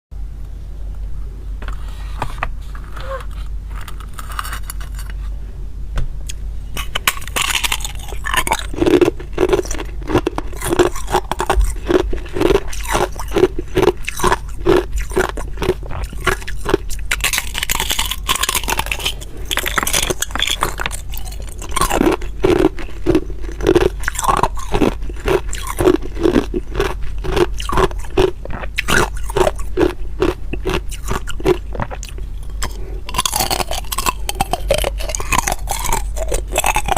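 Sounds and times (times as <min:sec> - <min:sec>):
ice being chewed with crunches: 0:02.8 - 0:05.2, 0:06.8 - 0:36.9.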